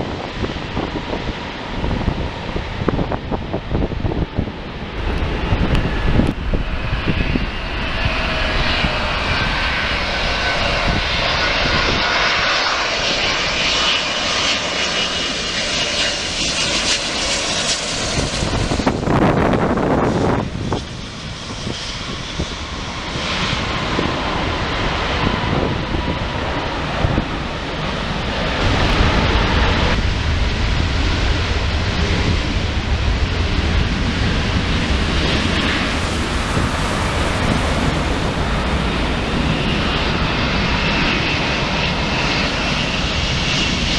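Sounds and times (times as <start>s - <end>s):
jet airliner passing: 0.0s - 43.9s
wind on microphone: 0.0s - 43.9s.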